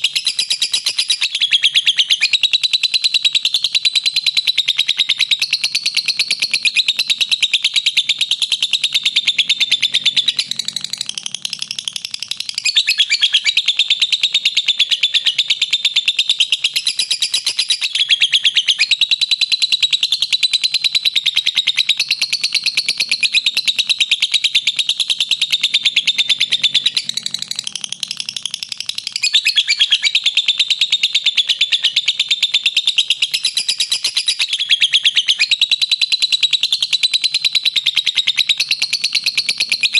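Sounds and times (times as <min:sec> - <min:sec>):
bird rapid high chirping: 0:00.0 - 0:39.9.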